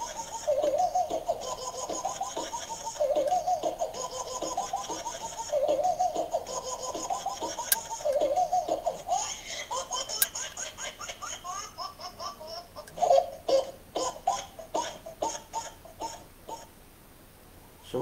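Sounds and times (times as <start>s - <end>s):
high-pitched laughter through speaker: 0.0s - 16.7s.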